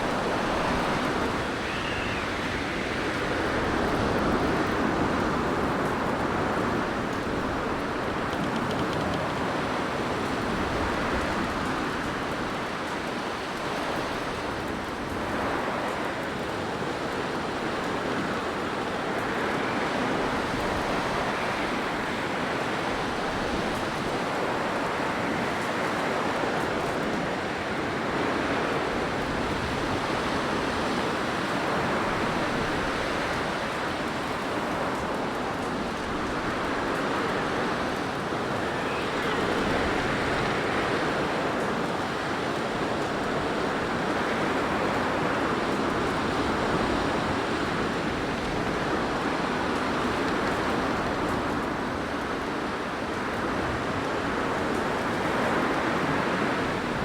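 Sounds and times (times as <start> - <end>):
blizzard wind rushing: 0.0 - 57.0.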